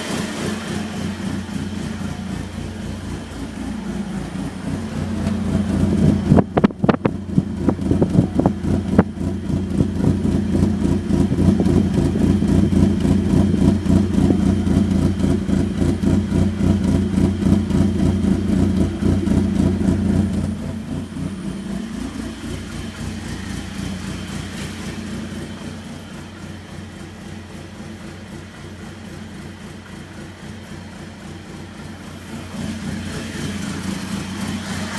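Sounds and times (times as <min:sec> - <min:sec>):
car engine idling rough: 0:00.0 - 0:34.9.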